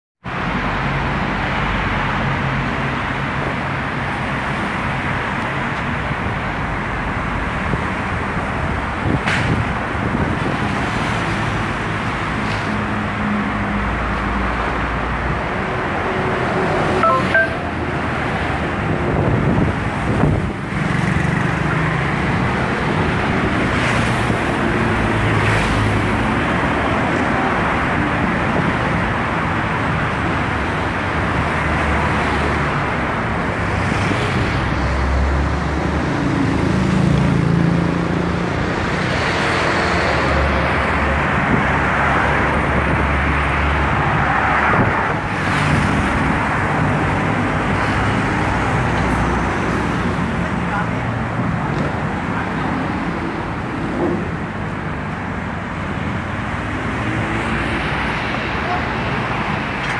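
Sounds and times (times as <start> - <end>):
cars passing: 0.3 - 59.9.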